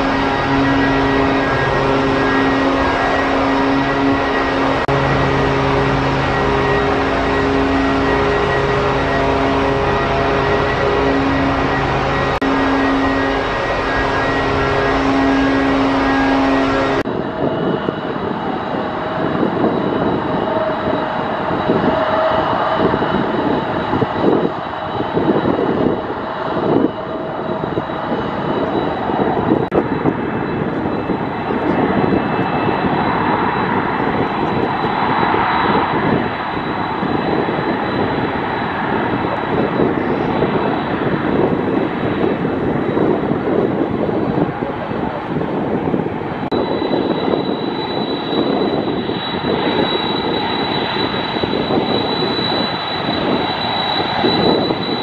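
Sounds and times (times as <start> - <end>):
faint high whine: 0.0 - 55.0
jet engines rumbling: 0.0 - 55.0.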